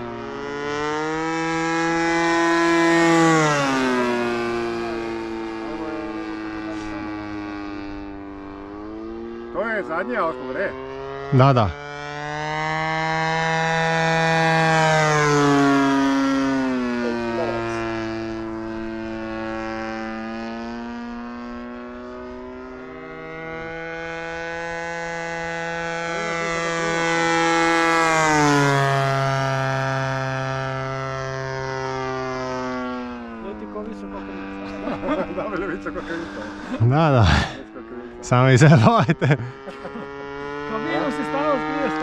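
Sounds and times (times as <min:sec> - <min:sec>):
model airplane engine flying past: 0:00.0 - 0:42.0.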